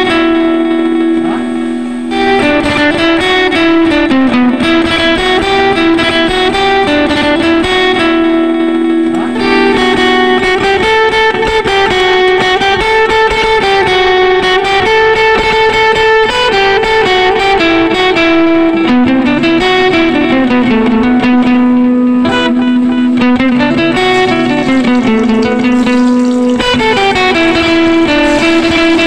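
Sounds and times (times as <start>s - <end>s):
guitar tune: 0.0s - 29.0s.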